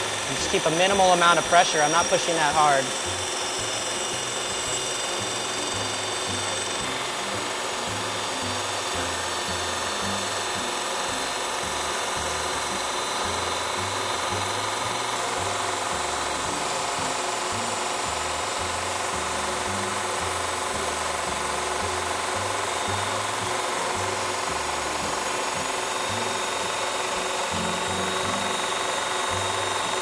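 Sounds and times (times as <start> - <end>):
saw blade grinding stone tile: 0.0 - 30.0.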